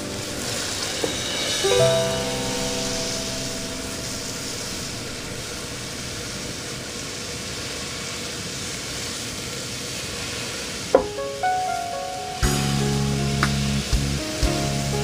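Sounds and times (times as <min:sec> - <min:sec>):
meat and onions sizzling: 0:00.0 - 0:15.0.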